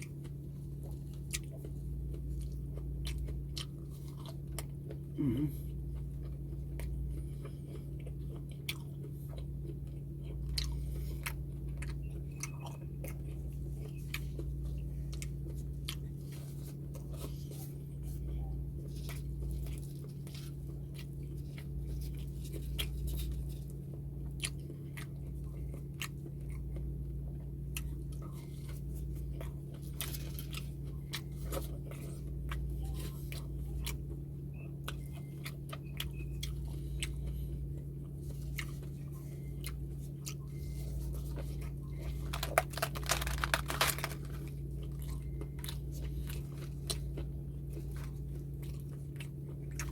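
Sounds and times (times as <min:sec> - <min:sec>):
low electrical hum: 0:00.0 - 0:49.9
person chewing crunchy food: 0:00.0 - 0:49.9.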